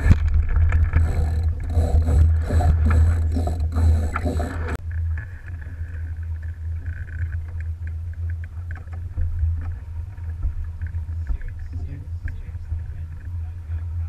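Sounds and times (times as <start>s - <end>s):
water splashing along hull: 0.0s - 14.0s.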